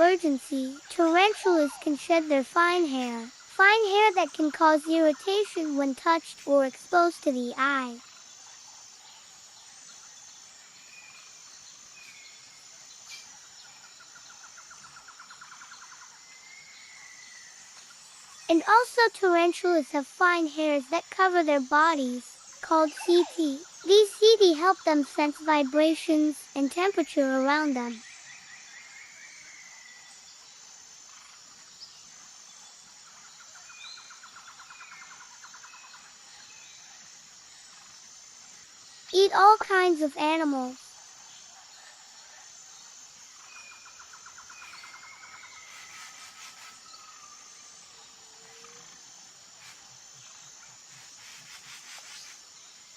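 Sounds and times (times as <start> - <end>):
high-pitched insect drone: 0.0 - 52.9.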